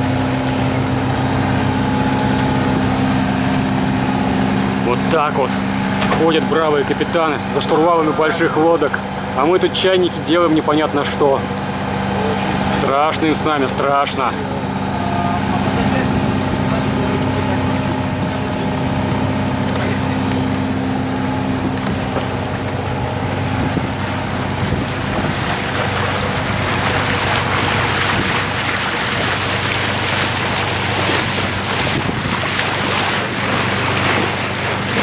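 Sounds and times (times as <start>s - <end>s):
diesel engine running: 0.0s - 35.0s
water rushing past hull: 0.0s - 35.0s.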